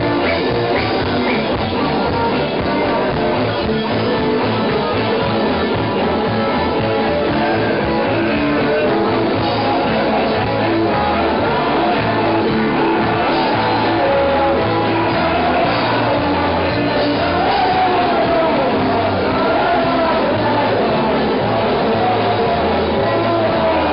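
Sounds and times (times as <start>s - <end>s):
bass line: 0.0s - 23.9s
drums: 0.0s - 23.9s
live punk band playing: 0.0s - 23.9s
person singing: 0.0s - 23.9s.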